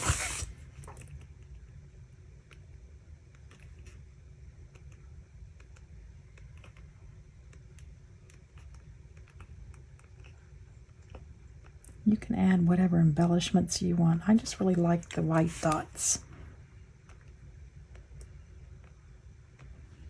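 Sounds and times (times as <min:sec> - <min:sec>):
low room rumble: 0:00.0 - 0:20.0.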